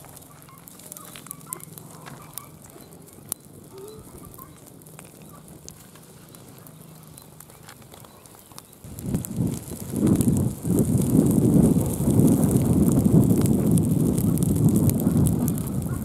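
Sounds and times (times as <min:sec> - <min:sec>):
palm fronds burning and crackling: 0:00.0 - 0:16.0.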